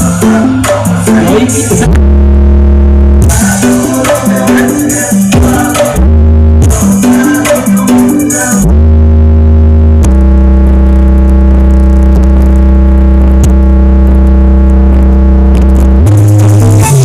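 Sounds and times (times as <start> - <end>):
loud synthesizer bass note: 0.0 - 17.0.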